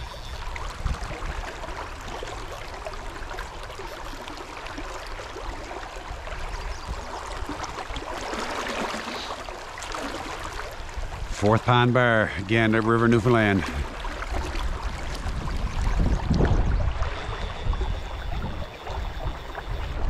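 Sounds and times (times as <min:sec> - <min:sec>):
fast river water rushing: 0:00.0 - 0:20.0.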